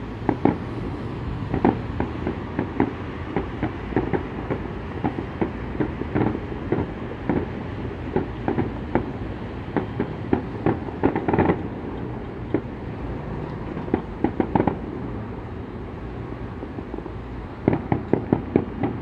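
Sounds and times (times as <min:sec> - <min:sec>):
fireworks bangs and pops: 0:00.2 - 0:00.7, 0:01.5 - 0:12.8, 0:13.8 - 0:15.0, 0:16.6 - 0:19.0.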